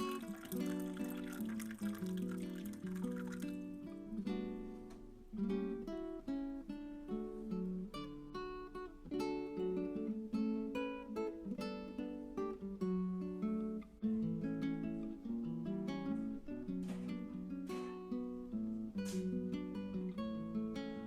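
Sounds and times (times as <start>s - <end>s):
fingerpicked acoustic guitar: 0.0s - 21.0s.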